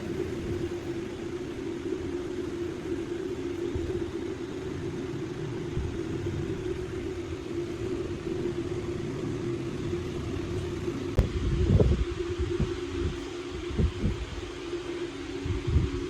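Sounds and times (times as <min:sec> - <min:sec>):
electric router running: 0:00.0 - 0:16.0.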